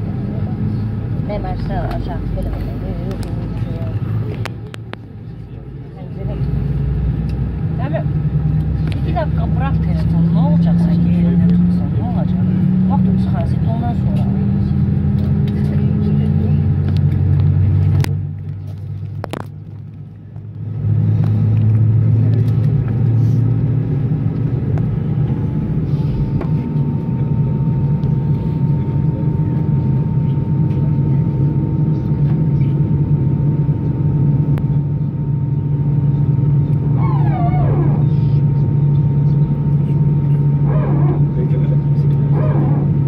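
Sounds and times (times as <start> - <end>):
aircraft cabin low rumble: 0.0 - 43.0.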